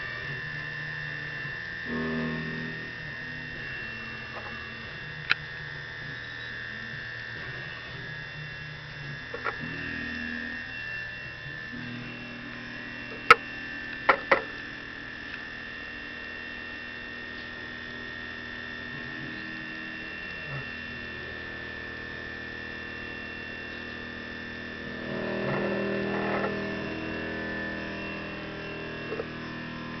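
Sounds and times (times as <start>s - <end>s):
milling machine whining: 0.0s - 30.0s.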